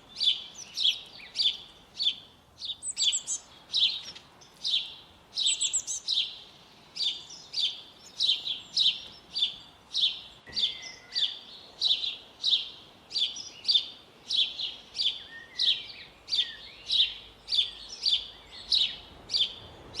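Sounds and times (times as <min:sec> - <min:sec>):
small bird chirping: 0:00.1 - 0:06.4, 0:07.0 - 0:20.0
faint bird calls: 0:00.1 - 0:20.0.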